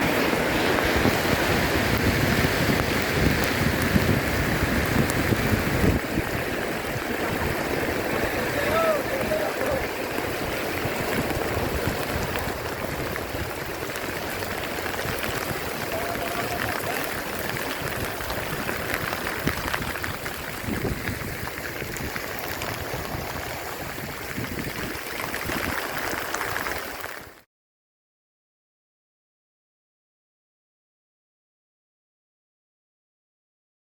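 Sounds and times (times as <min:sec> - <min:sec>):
heavy rain pouring: 0:00.0 - 0:27.5.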